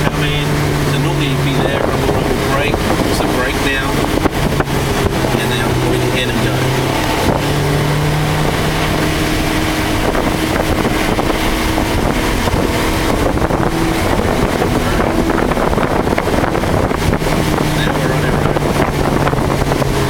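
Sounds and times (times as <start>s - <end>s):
car engine running hard: 0.0s - 20.0s
heavy wind: 0.0s - 20.0s
tyre noise on wet road: 0.0s - 20.0s.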